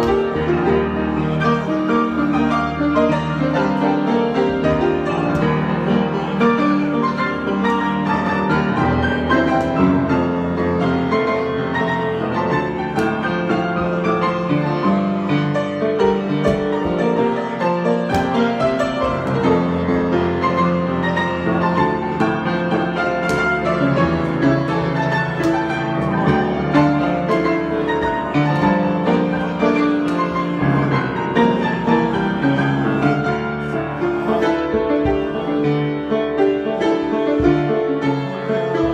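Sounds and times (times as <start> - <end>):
improvised piano music: 0.0 - 38.9.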